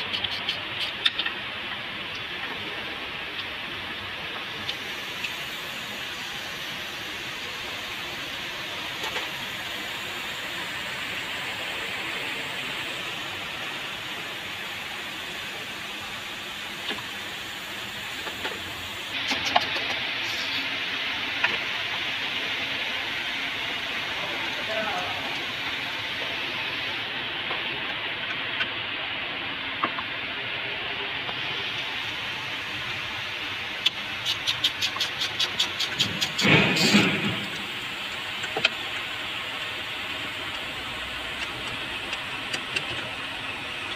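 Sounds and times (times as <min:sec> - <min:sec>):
engine running: 0:00.0 - 0:43.9
steady hissing noise: 0:00.0 - 0:43.9.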